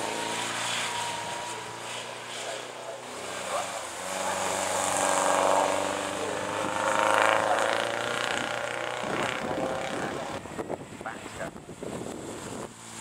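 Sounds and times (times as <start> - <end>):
racing car engine accelerating: 0.0 - 12.7.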